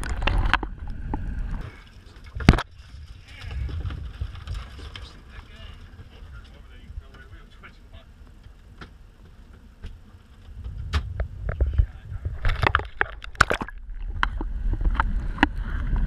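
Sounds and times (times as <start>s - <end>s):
low rumble: 0.0s - 16.0s
water splashing and crackling: 0.0s - 16.0s.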